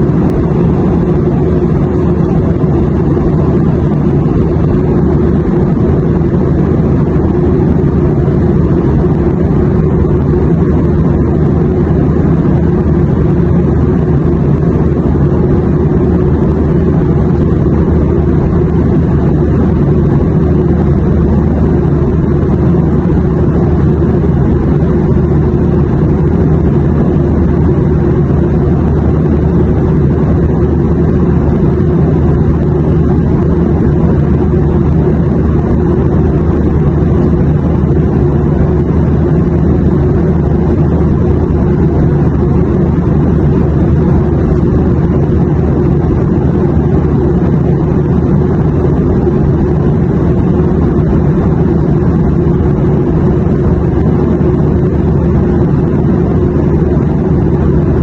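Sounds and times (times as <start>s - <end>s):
airplane drone: 0.0s - 58.0s.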